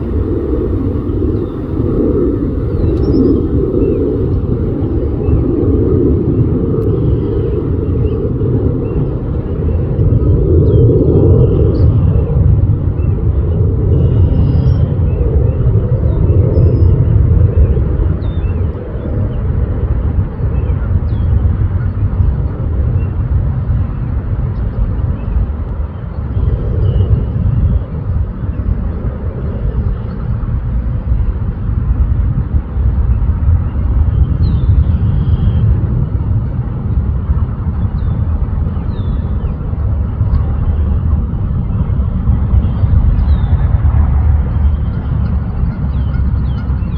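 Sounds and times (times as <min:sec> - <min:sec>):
loud low rumble: 0:00.0 - 0:18.7, 0:21.4 - 0:46.9.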